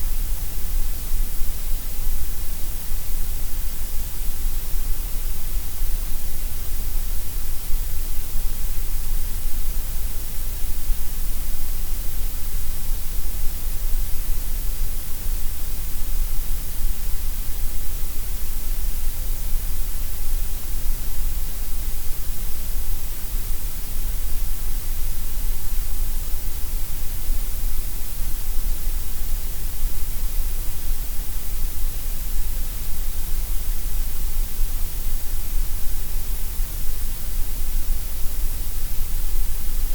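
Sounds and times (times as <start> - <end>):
gray noise hiss: 0.0 - 39.9.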